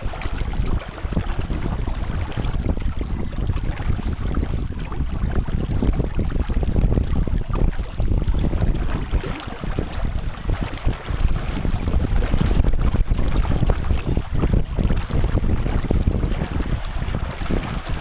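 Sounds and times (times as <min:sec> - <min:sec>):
water rushing along boat hull: 0:00.0 - 0:18.0
wind buffeting microphone: 0:00.0 - 0:18.0.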